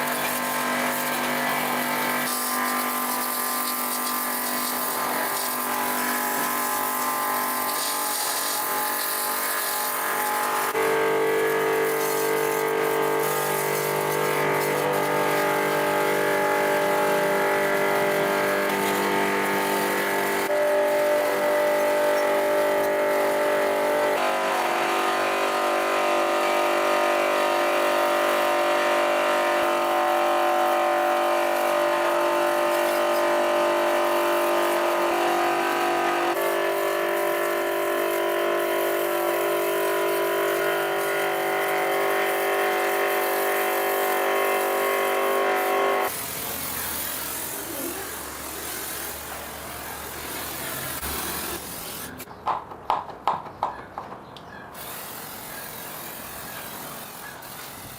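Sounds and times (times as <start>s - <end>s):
motor whining: 0.0s - 52.2s.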